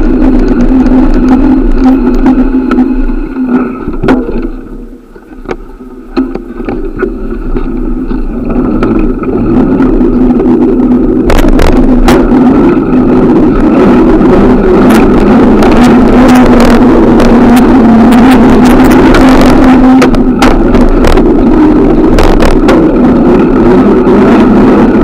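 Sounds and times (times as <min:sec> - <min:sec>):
bicycle tyres rumbling on road: 0:00.0 - 0:25.0.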